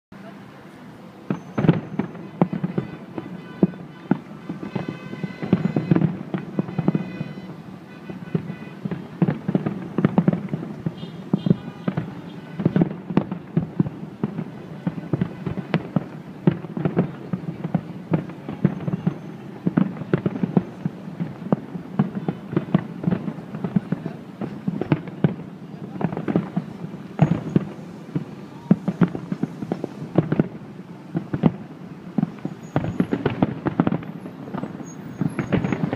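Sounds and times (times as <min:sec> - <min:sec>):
fireworks bursting: 0:00.2 - 0:35.9.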